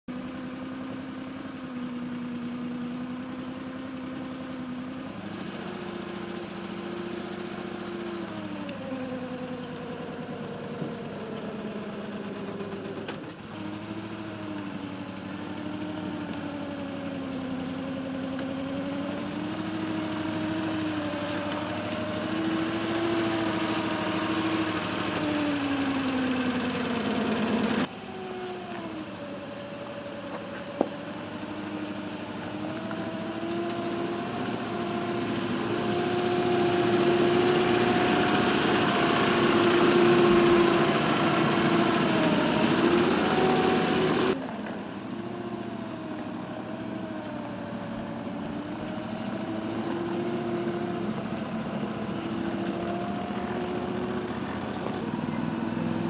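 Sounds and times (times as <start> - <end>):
boat engine running: 4.6 - 56.0.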